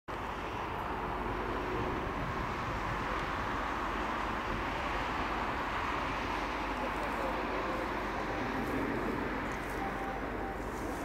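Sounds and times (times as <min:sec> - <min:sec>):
distant jet aircraft rushing: 0:00.1 - 0:11.0.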